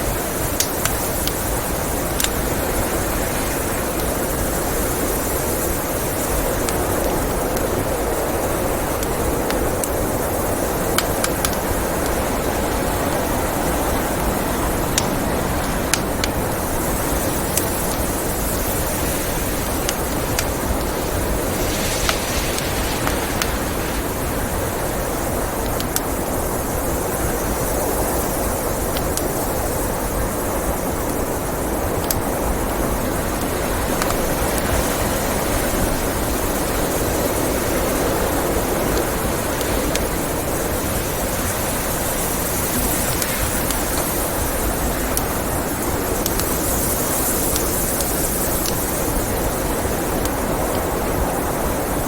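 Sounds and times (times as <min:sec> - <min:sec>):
wood fire crackling: 0:00.0 - 0:51.0
blizzard wind: 0:00.0 - 0:52.0.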